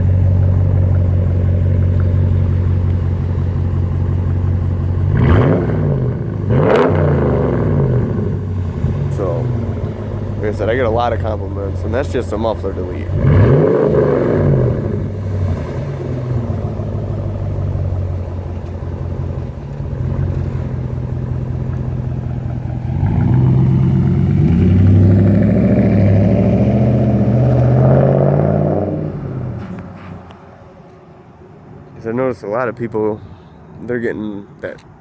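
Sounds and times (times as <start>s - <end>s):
engine idling and revving: 0.0s - 35.0s.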